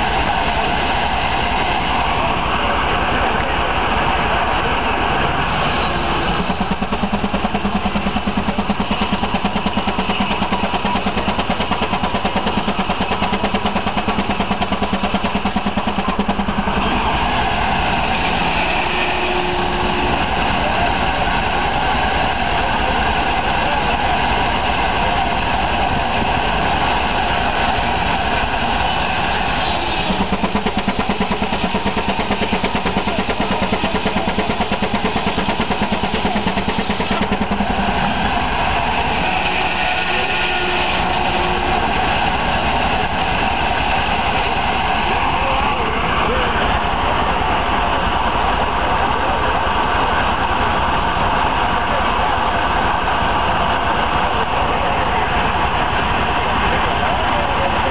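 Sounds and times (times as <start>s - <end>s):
sawmill machinery running: 0.0s - 57.9s
steam engine exhaust chuffing: 0.0s - 57.9s.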